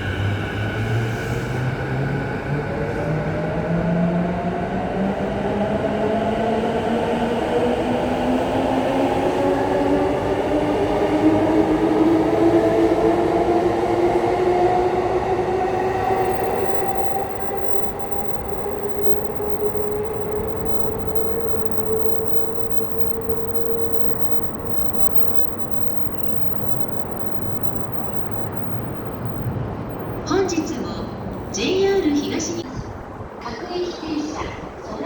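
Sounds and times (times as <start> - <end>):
train motor whine rising: 0.0 - 30.2
train rumbling on rails: 0.0 - 35.0.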